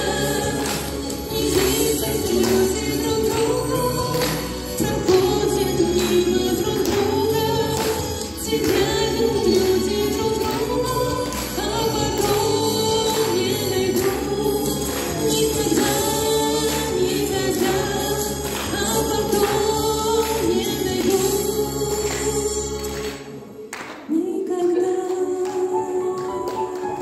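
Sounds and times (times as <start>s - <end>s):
backing track with steady beat: 0.0s - 23.6s
man and woman singing duet: 0.0s - 27.0s.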